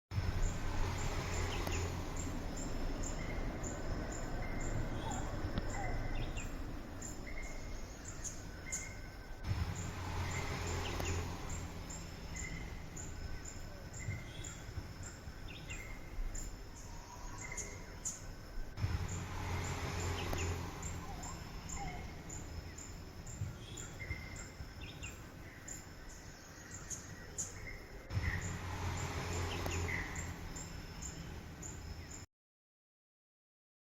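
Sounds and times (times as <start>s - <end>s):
honey bees buzzing: 0.2s - 26.2s, 28.1s - 31.8s
insect ticking: 0.2s - 27.6s
birds chirping: 0.2s - 32.3s.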